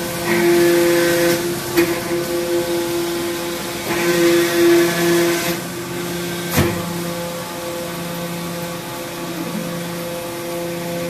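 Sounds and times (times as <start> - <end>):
hydraulic pump hum and whine: 0.0 - 11.0.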